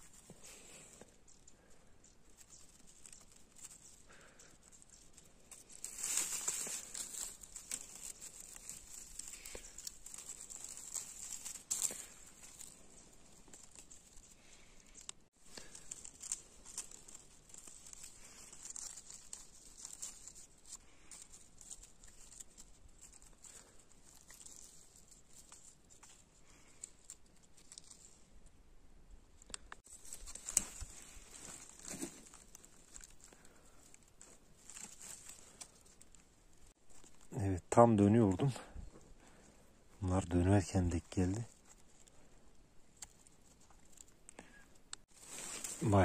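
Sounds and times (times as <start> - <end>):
leaves and twigs rustling: 0.0 - 46.0.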